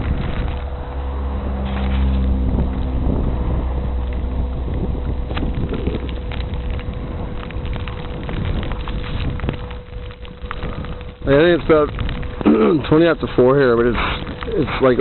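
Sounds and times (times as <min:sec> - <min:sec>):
vehicle engine droning: 0:00.0 - 0:15.0
wind buffeting microphone: 0:00.0 - 0:15.0.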